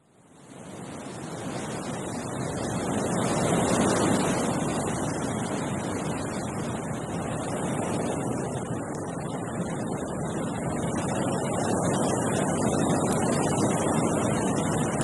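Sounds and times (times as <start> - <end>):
wind gusting through a tree: 0.0 - 15.0.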